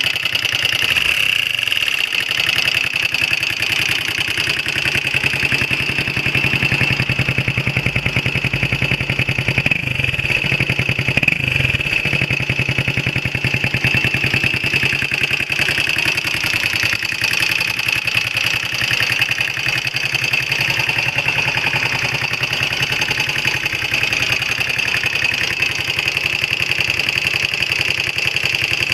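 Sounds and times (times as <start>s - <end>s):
motorcycle engine idling with clatter: 0.0s - 28.9s.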